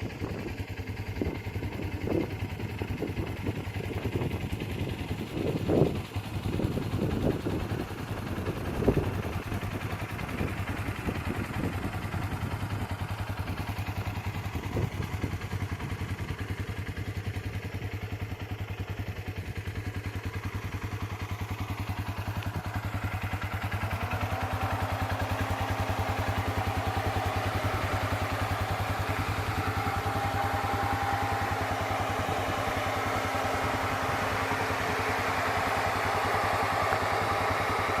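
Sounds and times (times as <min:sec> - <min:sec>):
utility vehicle engine running: 0:00.0 - 0:38.0.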